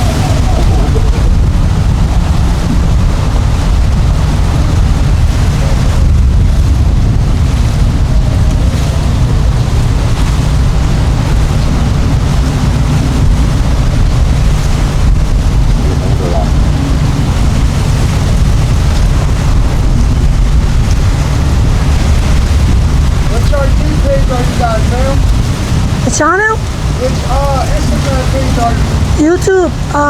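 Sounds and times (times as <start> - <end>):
boat engines running: 0.0 - 30.0
wind rumble on microphone: 0.0 - 30.0.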